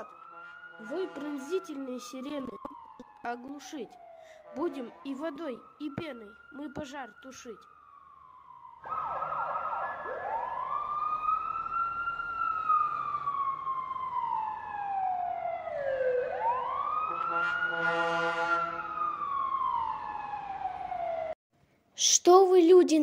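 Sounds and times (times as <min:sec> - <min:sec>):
fire engine siren wailing: 0:00.0 - 0:21.4.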